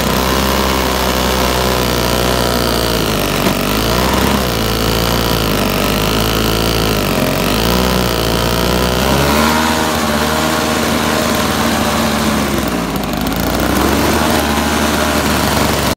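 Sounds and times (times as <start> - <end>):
snowblower engine running: 0.0 - 15.9.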